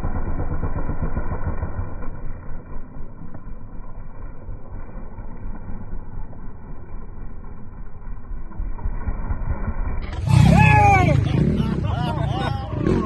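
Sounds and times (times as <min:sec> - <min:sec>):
dirt bike engine rumbling: 0:00.0 - 0:13.0.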